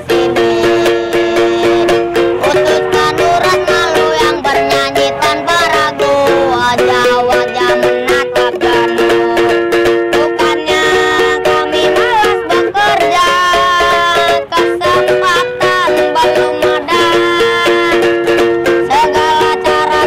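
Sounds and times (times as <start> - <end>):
strummed music with sliding melody: 0.0 - 20.0.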